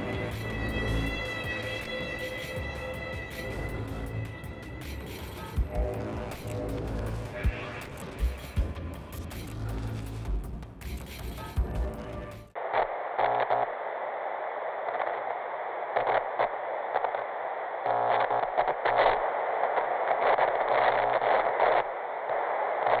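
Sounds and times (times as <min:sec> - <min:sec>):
tv static hiss: 0:00.0 - 0:12.0, 0:12.6 - 0:23.0.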